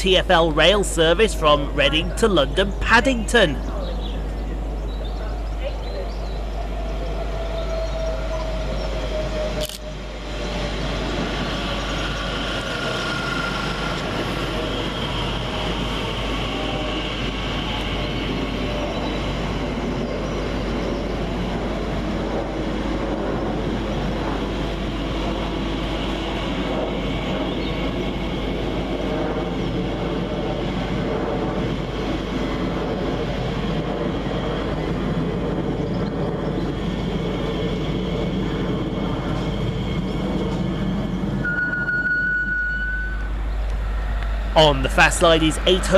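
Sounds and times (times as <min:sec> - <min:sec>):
train wheels on rails: 0:06.2 - 0:45.9.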